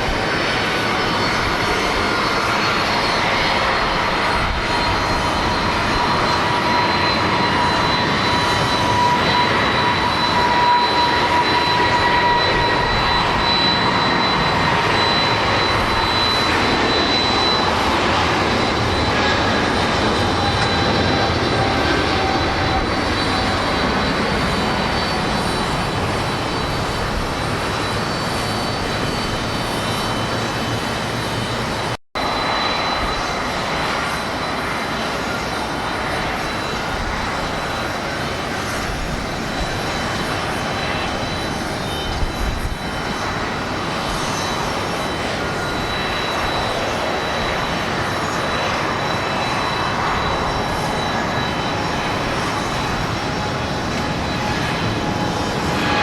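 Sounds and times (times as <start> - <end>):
jet airliner taking off: 0.0 - 56.0.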